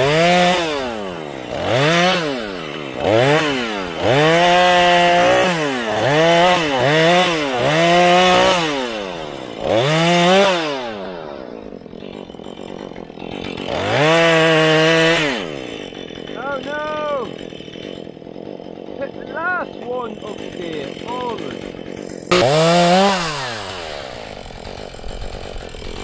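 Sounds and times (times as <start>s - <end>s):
chainsaw revving: 0.0s - 26.0s.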